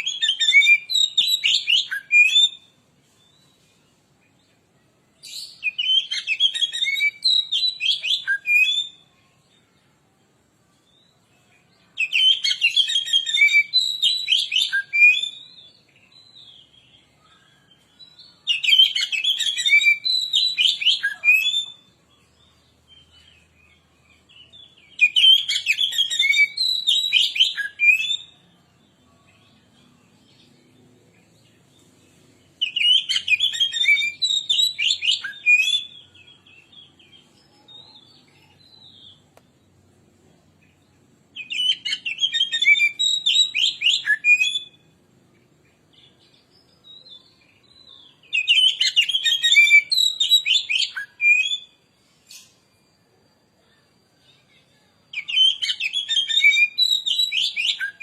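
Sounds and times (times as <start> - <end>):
bird singing whistled notes: 0.0 - 9.8, 10.7 - 39.9, 40.6 - 58.0.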